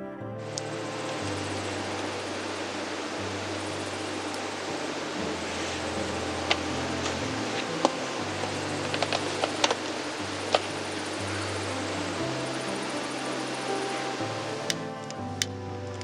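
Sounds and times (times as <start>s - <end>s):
soft background music: 0.0s - 16.0s
wood fire crackling and popping: 0.4s - 16.0s.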